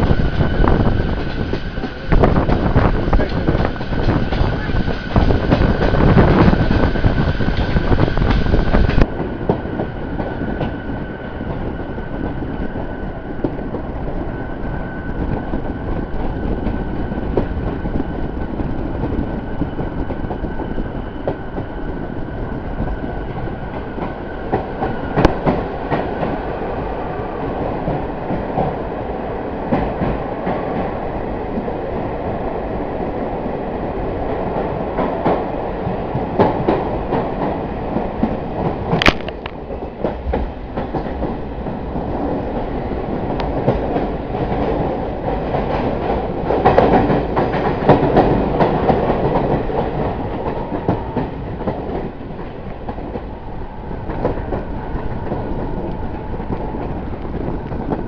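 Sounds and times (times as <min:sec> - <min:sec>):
train clicks and clanks: 0:00.0 - 0:58.0
train wheels rumbling on rail: 0:00.0 - 0:58.0.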